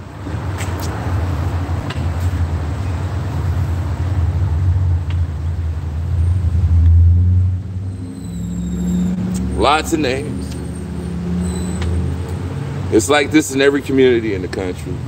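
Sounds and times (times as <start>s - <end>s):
passing road traffic rumble: 0.0s - 15.0s.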